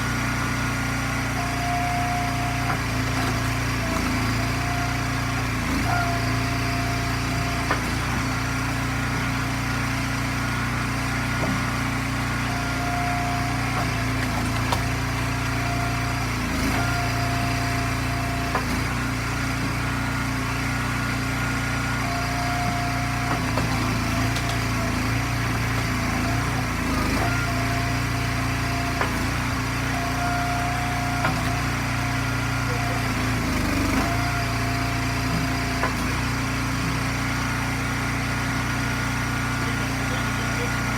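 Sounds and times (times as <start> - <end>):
small gas engine running: 0.0 - 40.9.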